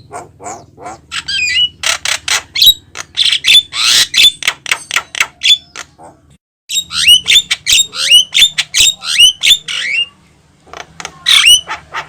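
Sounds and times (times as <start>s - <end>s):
myna bird squawking and whistling: 0.0s - 10.2s, 11.2s - 12.0s.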